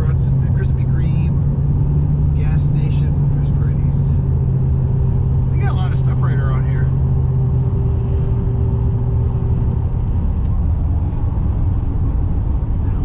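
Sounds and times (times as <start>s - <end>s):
truck engine and tyre drone: 0.0s - 13.0s.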